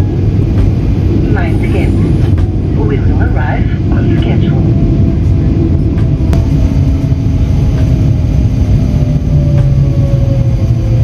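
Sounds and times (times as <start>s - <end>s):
train rumbling at speed: 0.0s - 11.0s.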